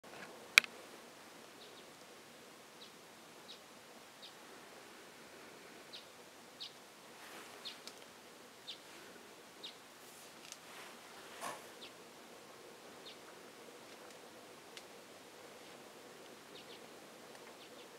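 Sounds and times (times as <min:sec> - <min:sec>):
quiet forest background: 0:00.0 - 0:17.9
soft rustle: 0:00.0 - 0:17.9.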